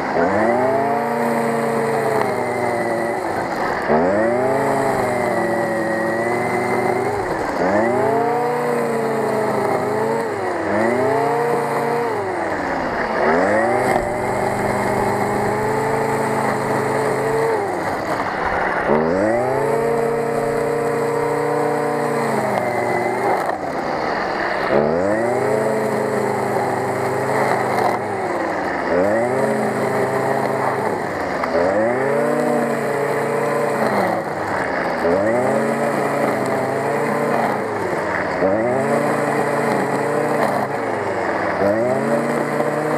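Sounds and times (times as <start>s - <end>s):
brushcutter engine revving: 0.0s - 42.9s
nylon line cutting grass: 0.0s - 42.9s.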